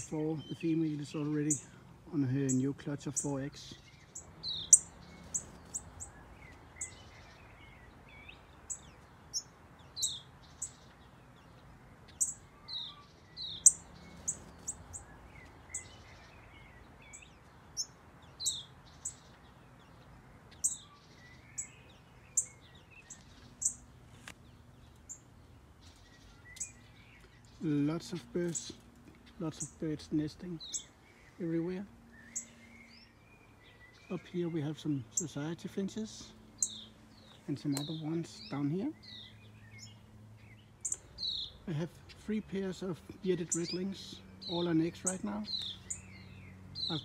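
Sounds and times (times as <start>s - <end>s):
faint steady background noise: 0.0s - 47.0s
small birds chirping: 0.0s - 47.0s.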